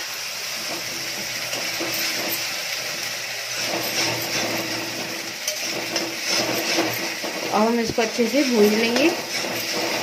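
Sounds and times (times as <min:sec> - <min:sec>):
puree sizzling in hot oil: 0:00.0 - 0:10.0
metal spatula scraping pan: 0:00.6 - 0:10.0.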